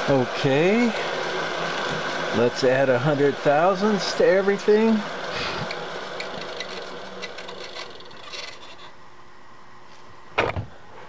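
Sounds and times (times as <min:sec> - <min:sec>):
milling machine whirring: 0:00.0 - 0:09.2.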